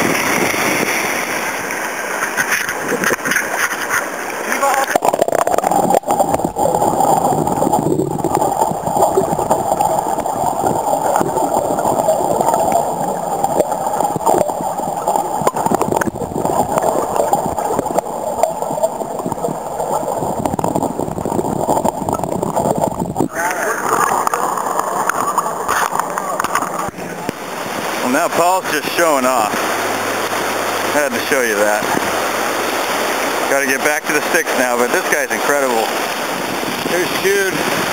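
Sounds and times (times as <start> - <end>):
river water rushing and gurgling: 0.0 - 37.9.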